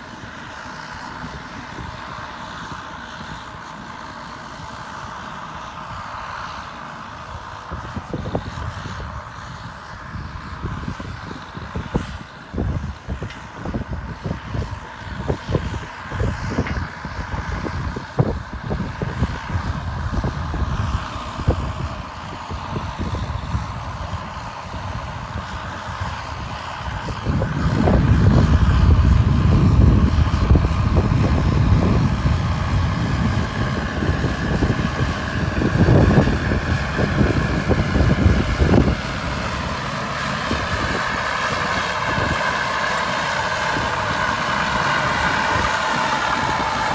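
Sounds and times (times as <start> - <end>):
bulldozer diesel engine: 0.0 - 46.9.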